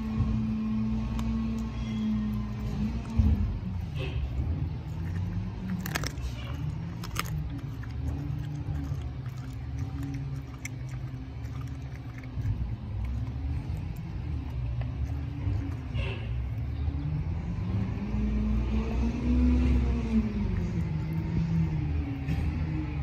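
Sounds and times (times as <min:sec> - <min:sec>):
dog gnawing bone: 0:00.0 - 0:18.1, 0:19.4 - 0:23.0
low rumble with hum: 0:00.0 - 0:23.0.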